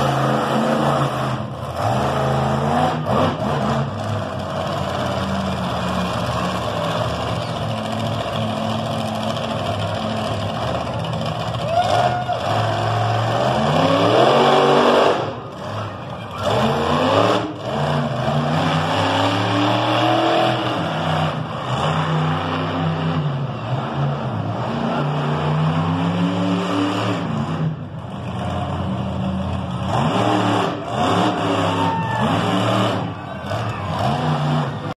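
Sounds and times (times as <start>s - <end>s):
monster truck engine revving: 0.0s - 35.0s.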